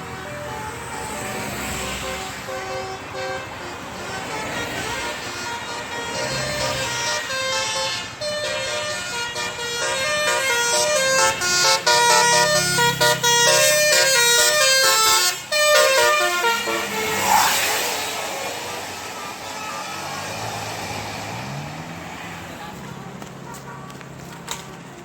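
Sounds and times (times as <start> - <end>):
musical air horn tune: 0.5 - 21.0.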